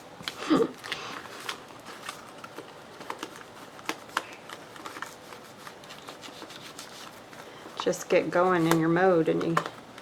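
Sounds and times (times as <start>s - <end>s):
paper rustling on a desk: 0.2s - 10.0s.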